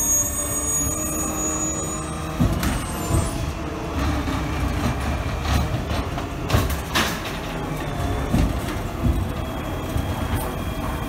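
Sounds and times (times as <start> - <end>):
garbage truck engine rumbling: 0.0 - 11.0.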